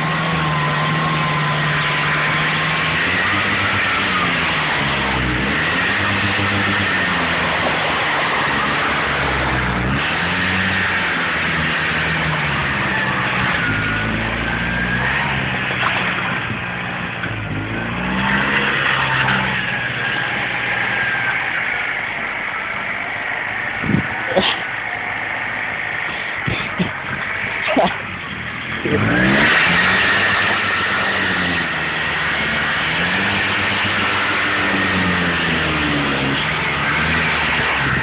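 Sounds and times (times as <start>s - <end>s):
small car engine revving: 0.0s - 38.0s
tyre squeal: 0.0s - 38.0s.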